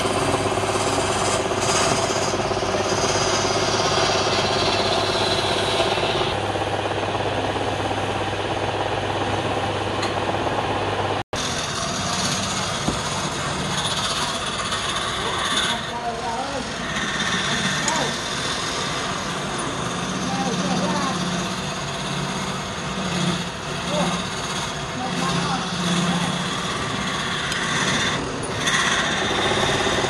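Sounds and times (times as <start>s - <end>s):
chisel scraping spinning wood: 0.0s - 6.4s, 11.4s - 30.0s
wood lathe motor hum: 0.0s - 10.8s, 11.4s - 30.0s.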